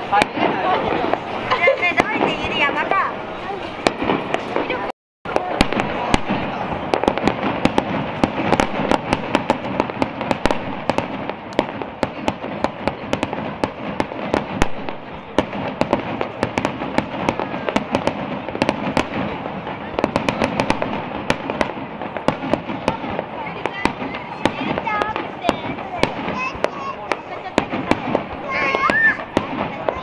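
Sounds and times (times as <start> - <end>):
fireworks bangs with crackling: 0.0 - 30.0.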